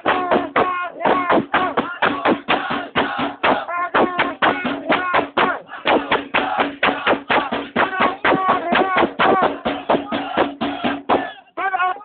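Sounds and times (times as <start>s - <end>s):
fast percussion beat: 0.0s - 11.4s
crowd chanting: 0.0s - 12.0s.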